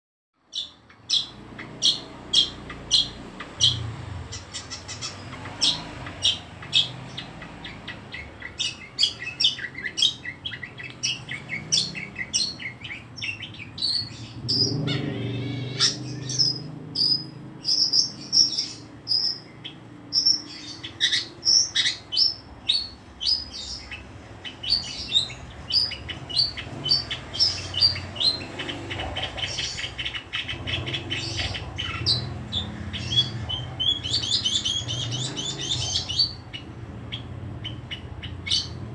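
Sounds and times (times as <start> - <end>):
bird singing chirps and whistles: 0.5 - 38.8.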